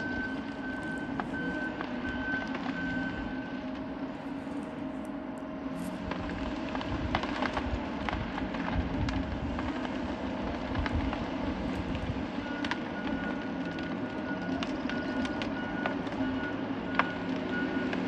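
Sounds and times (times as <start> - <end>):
heavy diesel engines running: 0.0 - 18.0.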